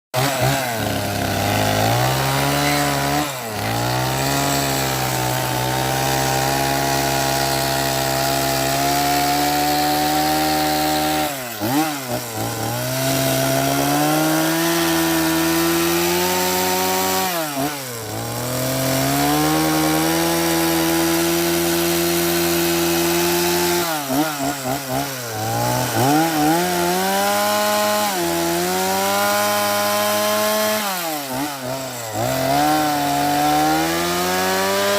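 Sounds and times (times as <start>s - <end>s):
chainsaw carving wood: 0.1s - 34.9s.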